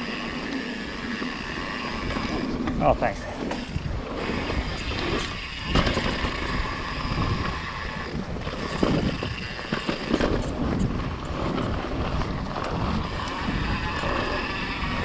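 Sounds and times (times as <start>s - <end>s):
tyres on dirt trail: 0.0s - 15.0s
wind buffeting microphone: 1.4s - 15.0s
bike knocks and rattles: 2.1s - 15.0s.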